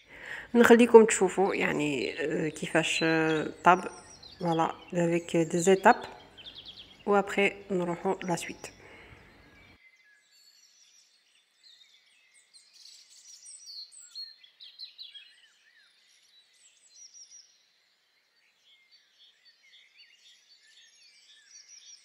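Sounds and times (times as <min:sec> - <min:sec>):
faint bird chirping: 0:00.0 - 0:22.0.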